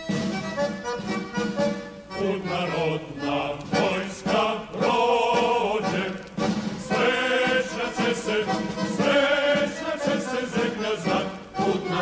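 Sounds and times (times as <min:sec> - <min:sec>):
choir singing: 0:02.1 - 0:12.0.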